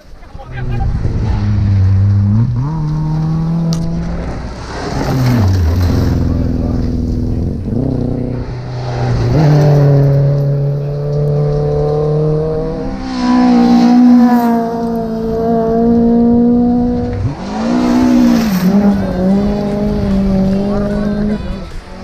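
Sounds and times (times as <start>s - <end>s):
rally car engine accelerating: 0.5s - 22.0s.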